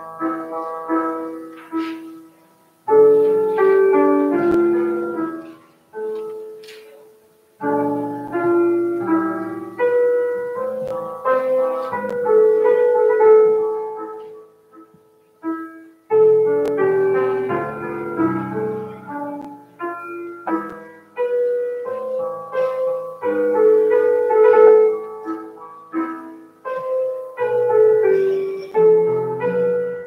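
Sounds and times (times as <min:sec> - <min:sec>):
slow piano chords: 0:00.0 - 0:30.0.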